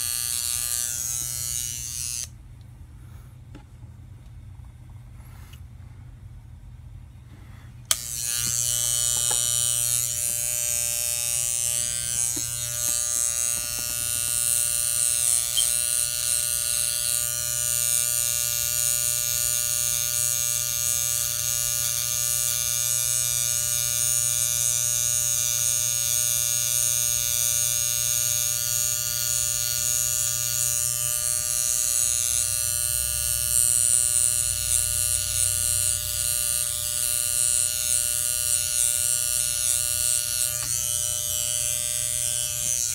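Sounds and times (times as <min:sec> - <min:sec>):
electric hair clippers buzzing: 0:00.0 - 0:02.4, 0:07.8 - 0:42.9.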